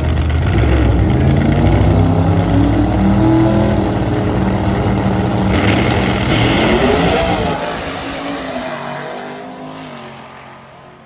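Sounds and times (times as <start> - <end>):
drag racing car engine revving: 0.0 - 11.0.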